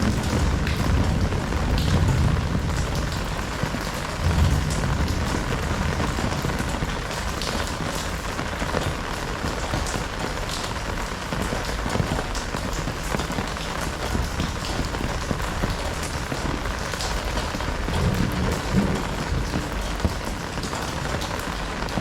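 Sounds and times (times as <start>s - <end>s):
heavy rain falling: 0.0s - 22.0s
raindrops ticking on surfaces: 0.0s - 22.0s.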